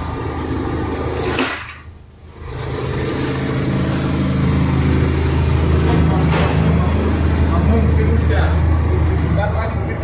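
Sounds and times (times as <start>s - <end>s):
kitchen fan humming: 0.0s - 10.0s.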